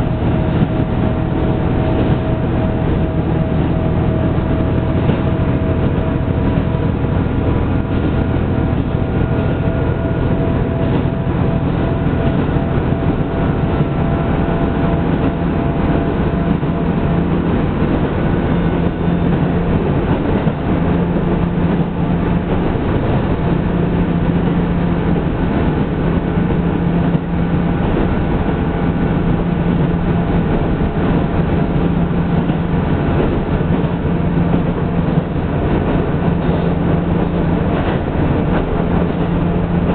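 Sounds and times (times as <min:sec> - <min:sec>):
diesel railcar engine drone: 0:00.0 - 0:39.9
rumbling wheels on rails: 0:00.0 - 0:39.9.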